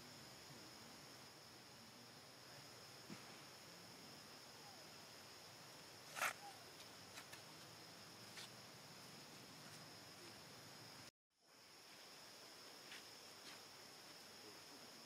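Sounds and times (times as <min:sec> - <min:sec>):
high-pitched insect hum: 0:00.0 - 0:15.0.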